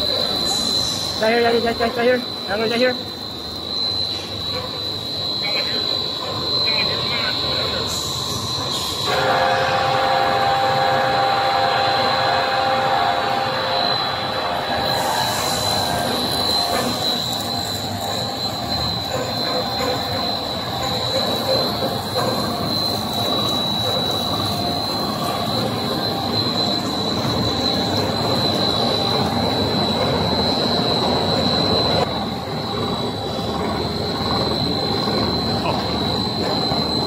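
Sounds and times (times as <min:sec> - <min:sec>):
high-pitched whine: 0:00.0 - 0:37.0
machinery running: 0:00.0 - 0:37.0.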